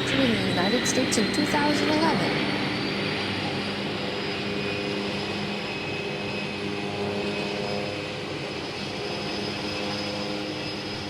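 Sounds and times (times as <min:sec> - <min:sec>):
turboprop engine whine: 0:00.0 - 0:11.0.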